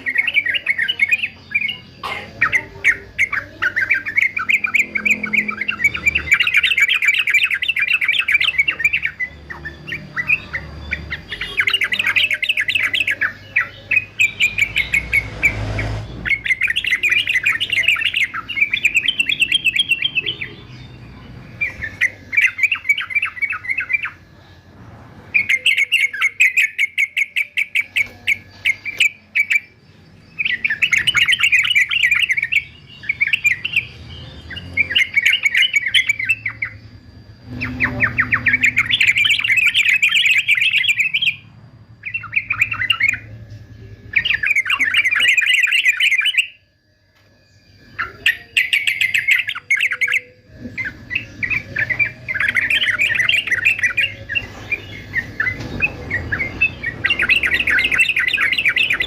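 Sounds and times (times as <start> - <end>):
bird singing chattering phrases: 0.0 - 46.6, 47.5 - 59.0.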